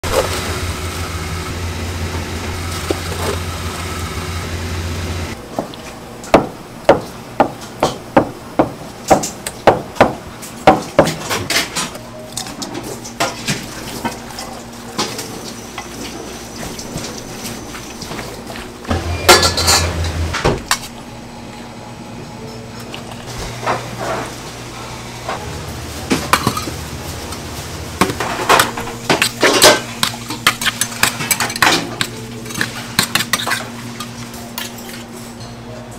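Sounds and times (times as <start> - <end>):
steady low hum: 0.0 - 8.8, 12.0 - 35.9.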